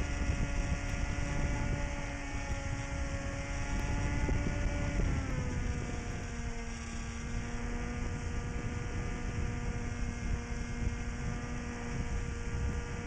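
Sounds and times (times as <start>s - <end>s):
electric motor and propeller whine: 0.0s - 13.0s
rumbling wind noise: 0.0s - 13.0s.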